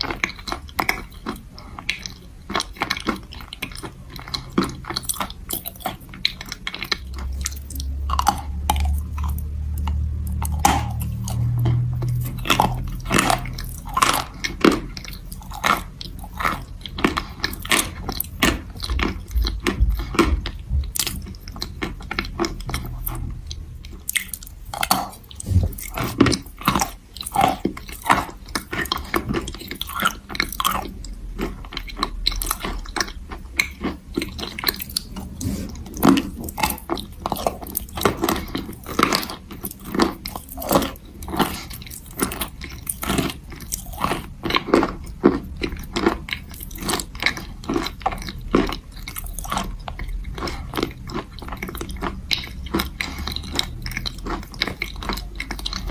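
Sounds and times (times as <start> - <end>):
chalk crunching while chewed: 0.0 - 55.9.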